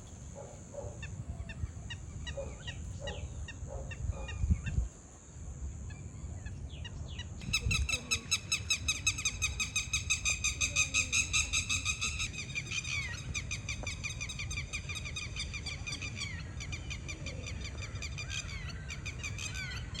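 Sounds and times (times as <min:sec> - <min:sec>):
birds chirping: 0:00.0 - 0:04.8, 0:05.9 - 0:20.0.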